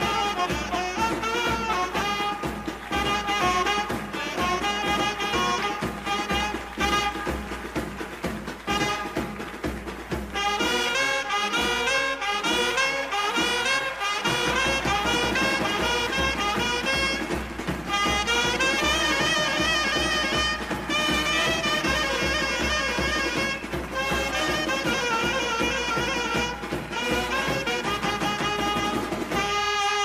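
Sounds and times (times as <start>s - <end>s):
brass playing fast melody: 0.0s - 30.0s
side drums beating: 0.0s - 30.0s.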